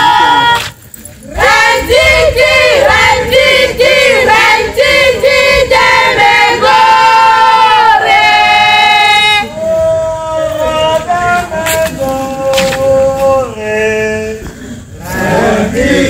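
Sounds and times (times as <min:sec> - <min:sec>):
group chanting in unison: 0:01.2 - 0:16.0.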